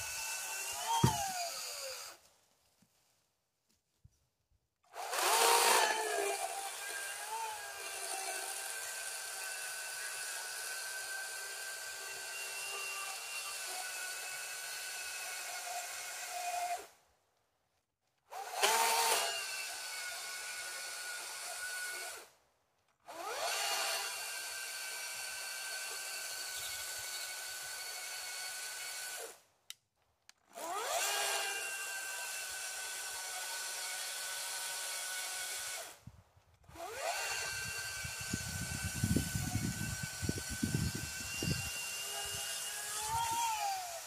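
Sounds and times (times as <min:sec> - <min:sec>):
chainsaw cutting through log: 0:00.0 - 0:02.2, 0:04.9 - 0:16.9, 0:18.3 - 0:22.3, 0:23.0 - 0:29.4, 0:30.5 - 0:36.1, 0:36.7 - 0:44.0.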